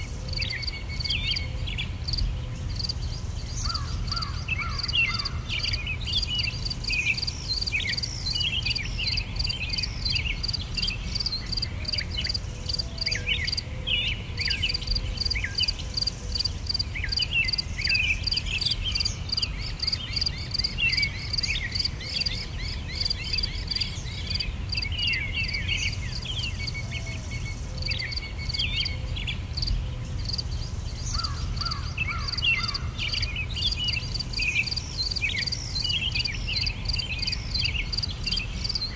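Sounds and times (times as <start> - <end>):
insects chirring: 0.0 - 13.7, 14.4 - 26.8, 27.5 - 38.9
bird chirps: 0.0 - 38.9.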